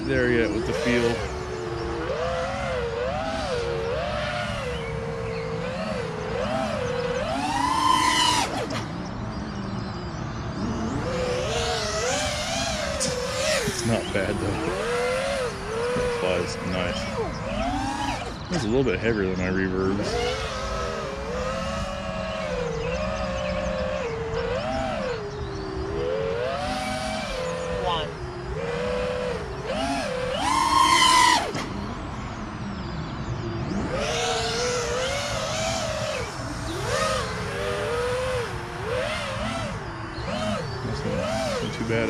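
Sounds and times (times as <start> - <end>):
low wind rumble: 0.0 - 42.0
quadcopter motors whining: 0.0 - 42.0.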